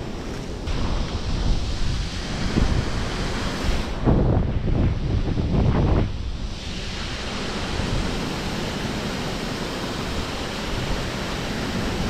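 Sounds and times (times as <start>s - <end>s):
water rushing through lock gates: 0.0s - 12.0s.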